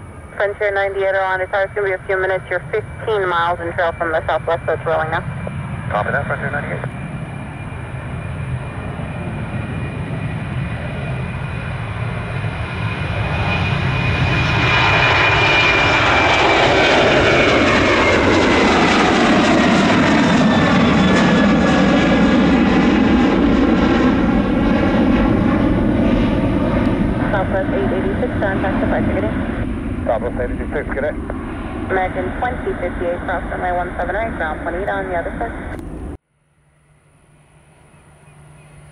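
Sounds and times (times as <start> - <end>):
jet engines roaring: 0.0 - 36.2.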